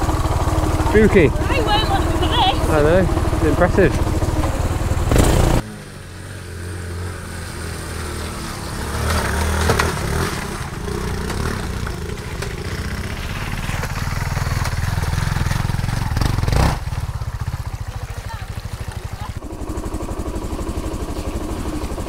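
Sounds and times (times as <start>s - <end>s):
motorcycle engines running: 0.0s - 22.0s
passing motorcycle engine: 0.0s - 22.0s.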